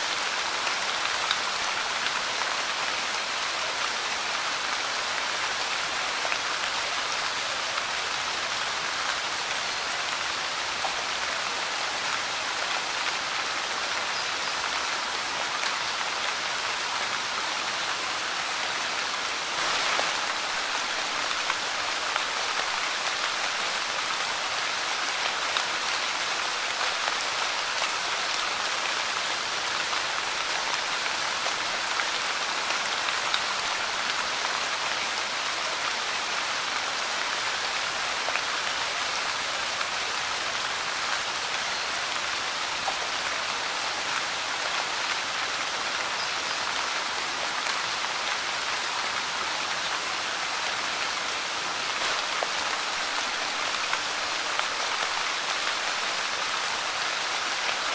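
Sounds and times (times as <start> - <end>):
light rain on a leaf: 0.0 - 57.9.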